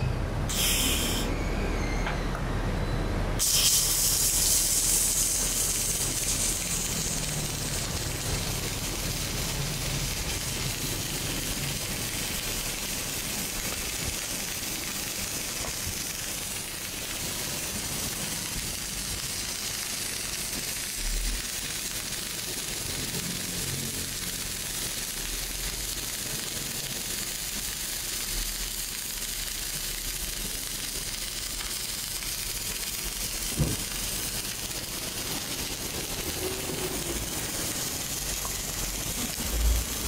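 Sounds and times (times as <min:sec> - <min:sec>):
arc welding crackling hiss: 0:00.5 - 0:01.4, 0:03.4 - 0:40.0.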